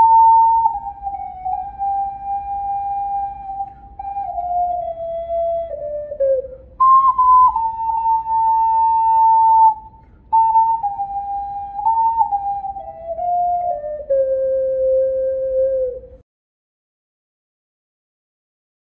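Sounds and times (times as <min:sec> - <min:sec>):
ocarina melody: 0:00.0 - 0:16.2.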